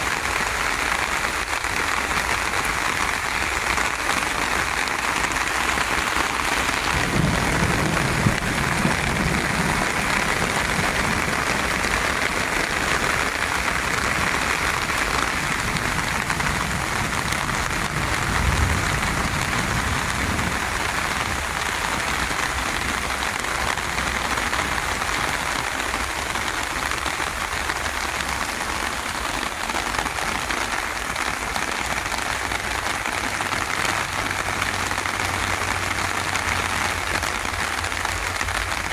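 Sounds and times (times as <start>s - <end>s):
rain falling on plants: 0.0s - 38.9s.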